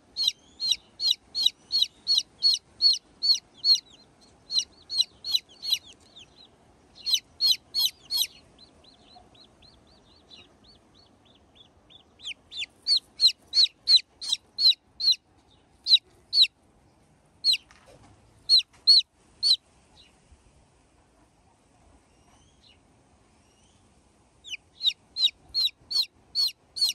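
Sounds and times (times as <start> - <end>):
chick peeping: 0.0 - 16.5, 17.4 - 20.2, 24.4 - 26.9.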